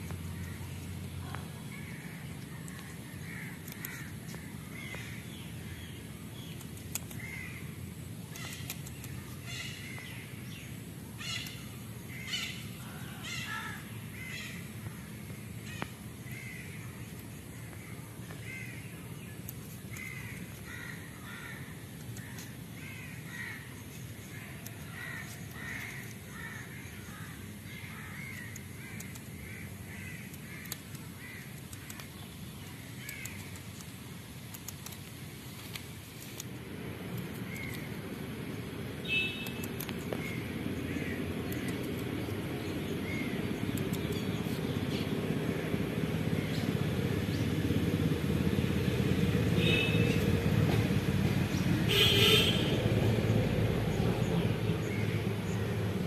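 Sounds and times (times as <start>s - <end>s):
birds calling: 0.0s - 34.0s, 35.7s - 56.0s.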